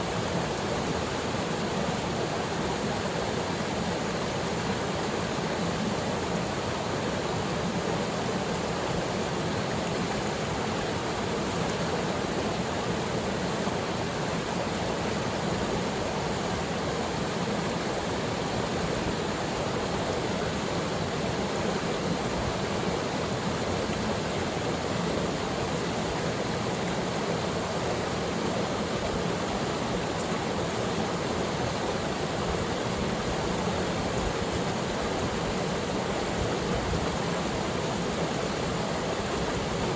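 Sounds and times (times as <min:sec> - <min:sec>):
small waterfall rushing into pool: 0:00.0 - 0:39.9.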